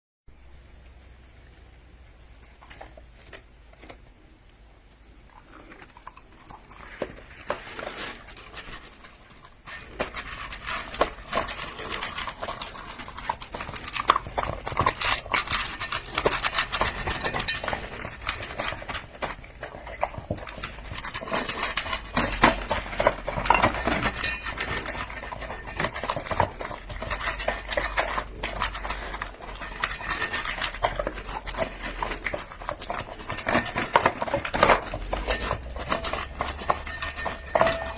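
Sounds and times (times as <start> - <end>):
dog chewing and licking: 5.3 - 37.9.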